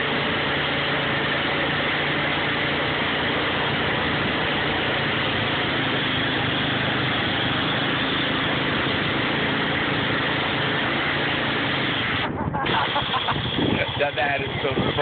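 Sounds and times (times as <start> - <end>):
churned water rushing: 0.0 - 15.0
vehicle engine running: 0.0 - 15.0.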